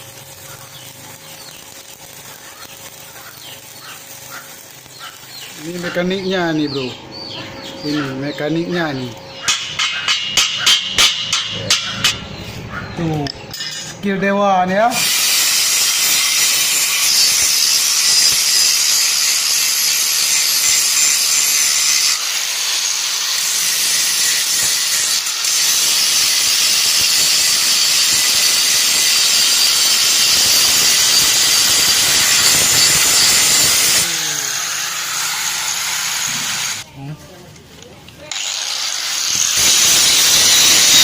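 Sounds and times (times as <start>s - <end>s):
loud steady metalworking hiss: 0.0s - 7.0s, 7.8s - 12.6s, 14.8s - 36.9s, 38.3s - 41.0s.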